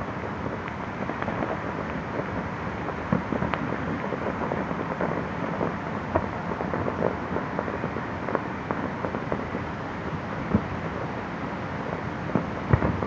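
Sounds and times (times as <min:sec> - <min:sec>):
firework pops and crackles: 0:00.0 - 0:13.0
rumble of distant explosions: 0:00.0 - 0:13.0.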